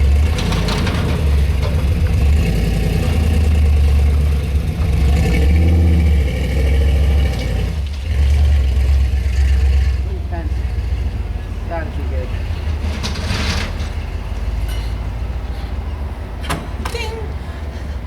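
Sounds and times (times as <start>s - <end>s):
truck engine running hard: 0.0s - 18.0s.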